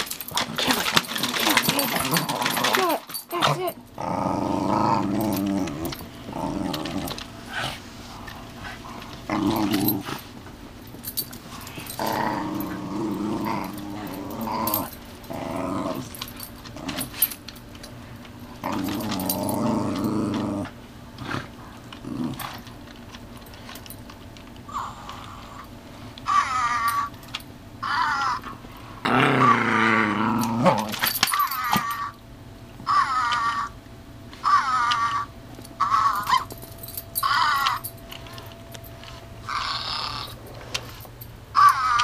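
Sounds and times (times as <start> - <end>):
small dogs play-growling: 0.0 - 17.4, 18.4 - 22.8, 24.7 - 27.1, 27.8 - 32.1, 34.4 - 38.6, 39.4 - 42.0.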